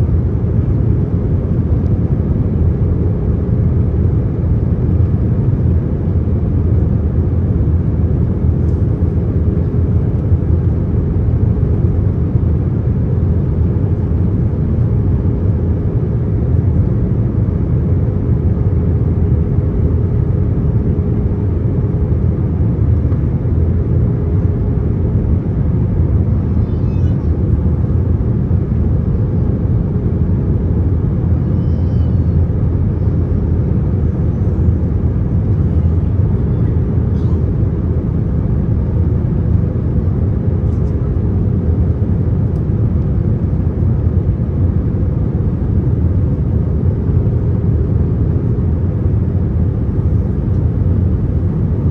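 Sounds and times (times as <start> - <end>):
aircraft cabin engine rumble: 0.0 - 51.9
faint steady hum: 0.0 - 51.9.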